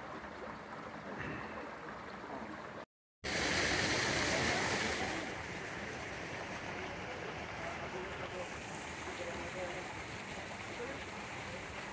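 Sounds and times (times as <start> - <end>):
creek water running over rocks: 0.0 - 11.9.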